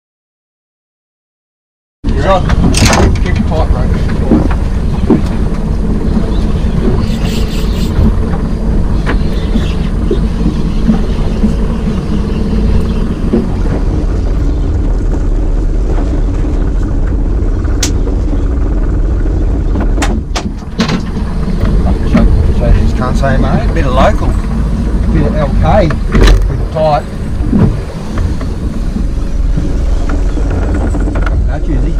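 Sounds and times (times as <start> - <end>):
wind buffeting microphone: 2.0 - 31.9
outboard motor idling: 2.1 - 31.9.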